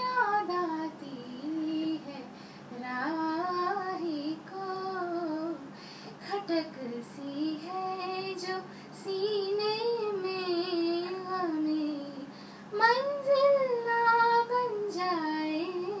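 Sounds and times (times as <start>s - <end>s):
woman singing into microphone: 0.0s - 16.0s.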